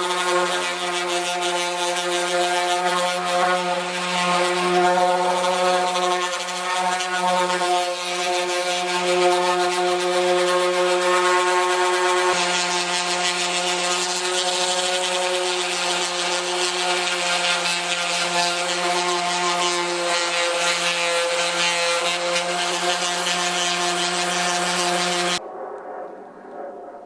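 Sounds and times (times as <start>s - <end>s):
power sander on metal: 0.0s - 25.4s.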